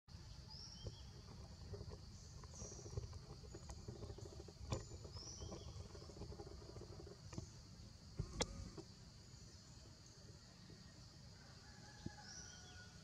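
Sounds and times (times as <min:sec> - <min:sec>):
high drone of insects: 0:00.1 - 0:13.0.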